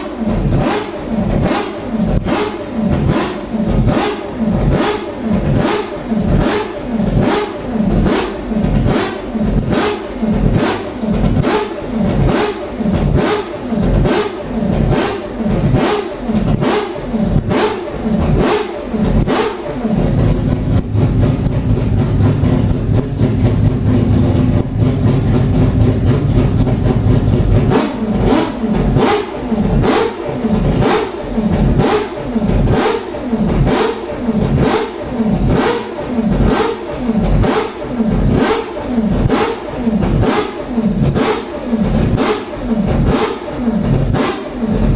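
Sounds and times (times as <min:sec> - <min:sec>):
rotary racing engine revving: 0:00.0 - 0:44.9.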